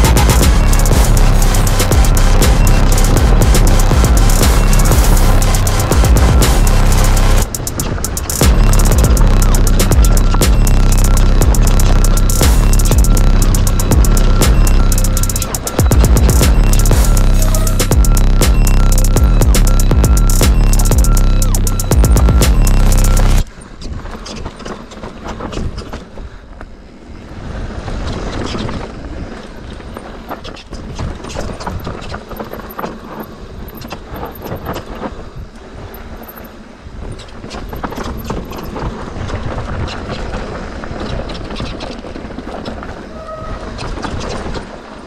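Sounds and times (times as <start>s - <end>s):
bike tyres rumbling on dirt: 0.0s - 45.0s.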